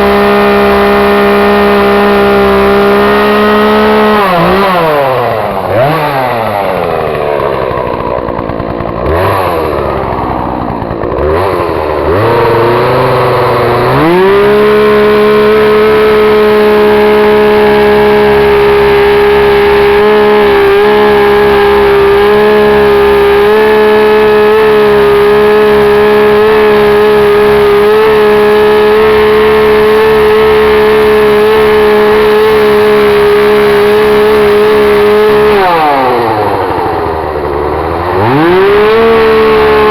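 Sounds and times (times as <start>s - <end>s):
chainsaw carving wood: 0.0s - 39.9s.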